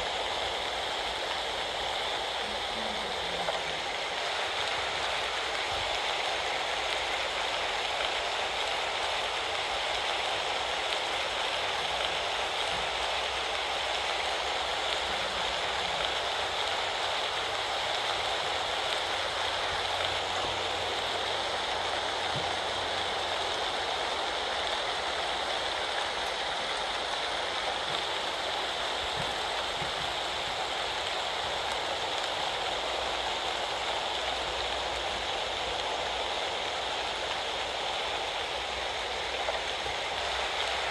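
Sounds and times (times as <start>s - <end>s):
rain pattering: 0.0s - 40.9s
faint drips: 0.8s - 40.8s.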